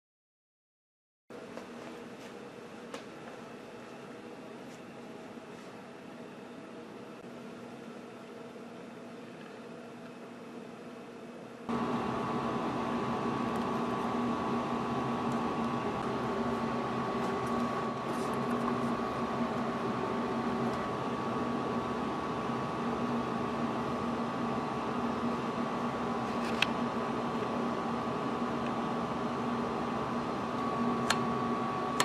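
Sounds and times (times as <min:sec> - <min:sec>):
background hum and hiss: 0:01.3 - 0:32.0.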